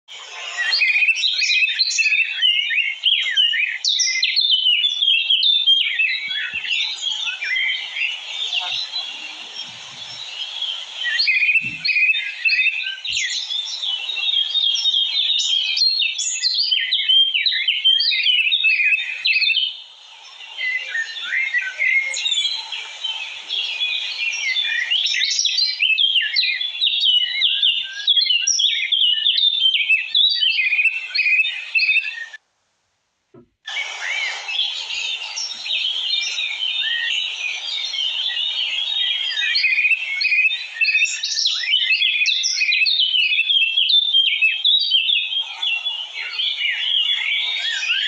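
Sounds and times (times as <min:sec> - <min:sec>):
small birds chirping: 0:00.1 - 0:32.4, 0:33.4 - 0:48.0.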